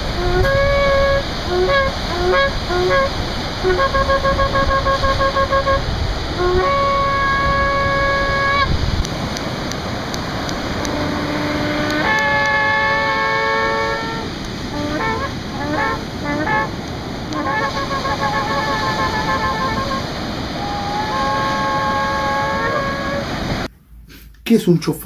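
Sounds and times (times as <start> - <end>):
lower-pitched shofar blast: 0.0 - 9.0, 10.7 - 23.7
shofar blasts: 0.0 - 9.0, 10.7 - 23.7.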